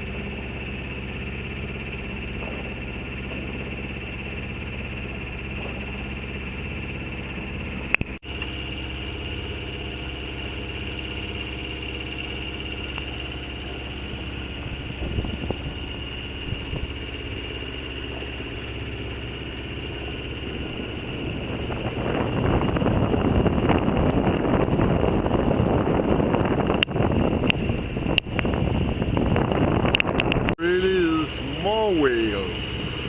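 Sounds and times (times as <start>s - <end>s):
boat engine humming: 0.0s - 33.0s.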